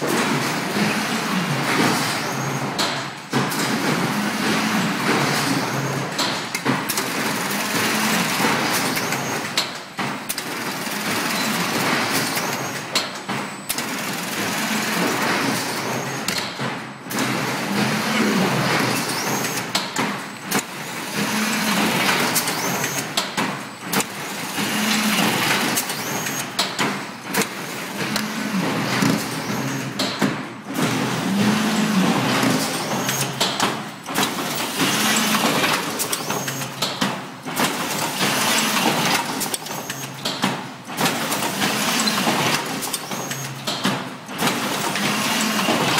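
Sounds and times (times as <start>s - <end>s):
machine clattering: 0.0s - 45.9s.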